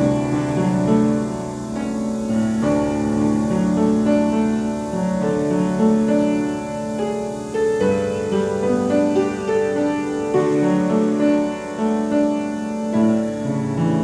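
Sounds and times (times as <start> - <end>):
slow piano piece: 0.0 - 14.0.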